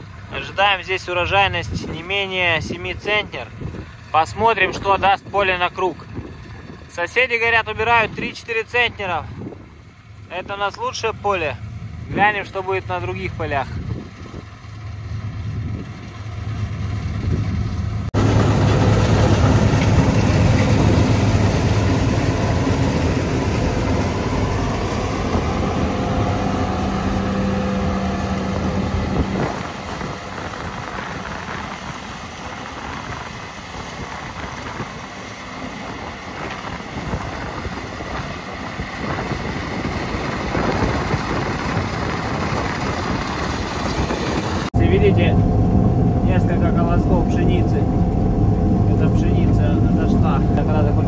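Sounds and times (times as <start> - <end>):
farm machinery engine running: 0.0 - 51.0.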